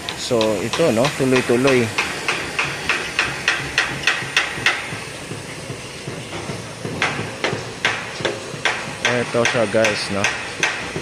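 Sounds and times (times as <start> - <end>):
hammer strikes: 0.1 - 11.0.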